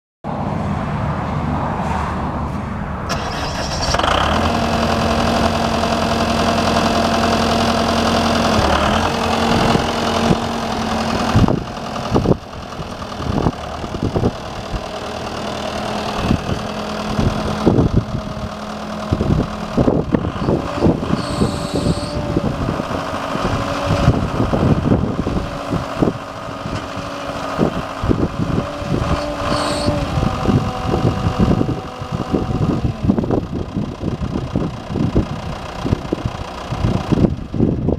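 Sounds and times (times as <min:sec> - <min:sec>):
tractor knocks and clunks: 0:03.1 - 0:37.8
tractor engine running: 0:03.1 - 0:37.9.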